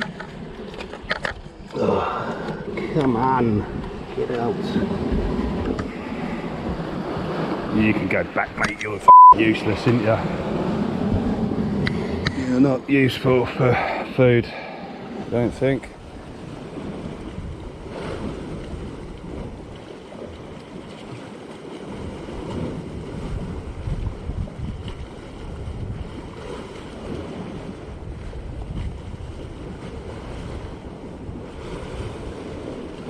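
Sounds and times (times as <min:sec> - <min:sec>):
sea waves washing against rocks: 0:00.0 - 0:33.0
wind buffeting microphone: 0:00.0 - 0:33.0.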